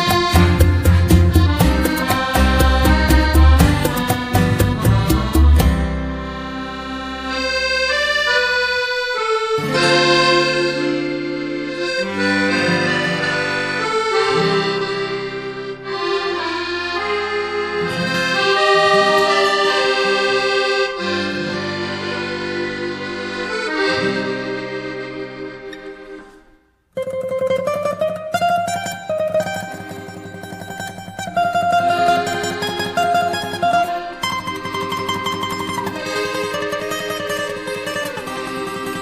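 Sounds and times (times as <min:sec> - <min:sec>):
instrumental background music: 0:00.0 - 0:39.0.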